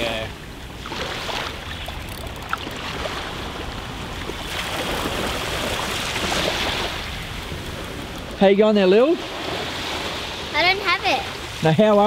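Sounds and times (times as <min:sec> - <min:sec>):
rushing water: 0:00.0 - 0:12.0
wind: 0:00.0 - 0:12.0.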